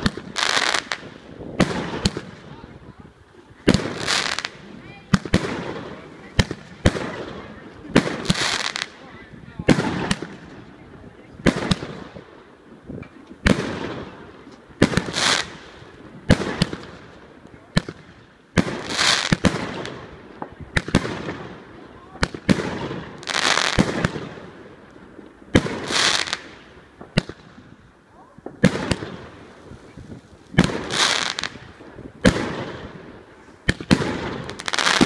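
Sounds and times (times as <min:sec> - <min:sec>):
fireworks banging: 0:00.0 - 0:27.8, 0:28.4 - 0:35.0
fireworks crackling hiss: 0:00.0 - 0:35.0.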